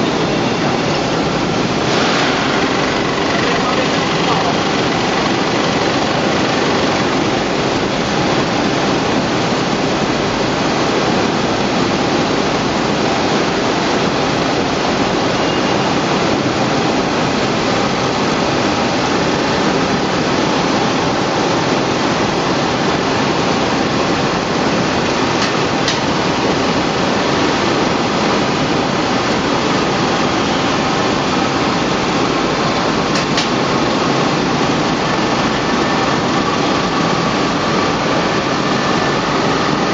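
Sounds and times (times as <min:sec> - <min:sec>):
wire coiling machine running: 0:00.0 - 0:39.9.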